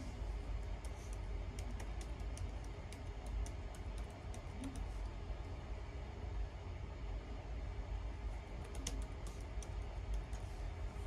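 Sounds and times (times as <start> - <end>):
ceiling fan rumbling: 0.0 - 11.0.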